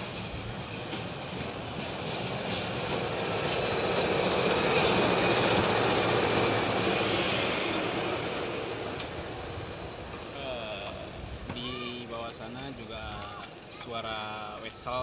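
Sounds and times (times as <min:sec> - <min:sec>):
locomotive diesel engine passing: 0:00.0 - 0:15.0.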